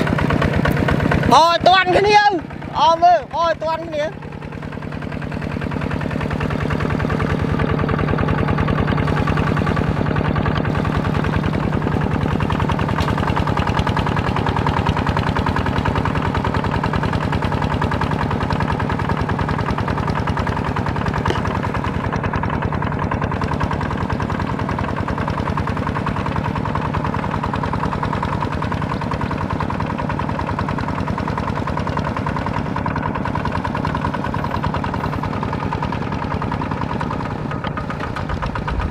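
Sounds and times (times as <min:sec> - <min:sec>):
tractor engine chugging: 0:00.0 - 0:38.9.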